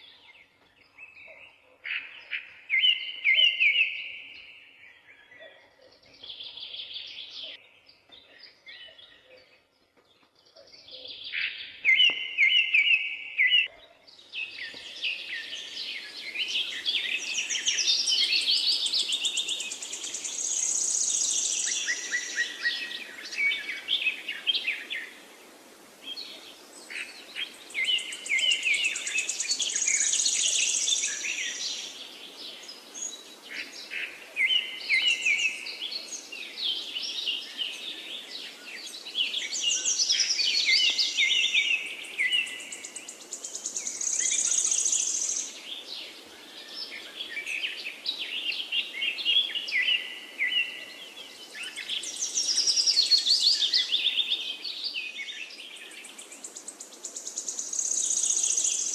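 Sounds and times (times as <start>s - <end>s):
forest birds singing: 0.0s - 58.9s.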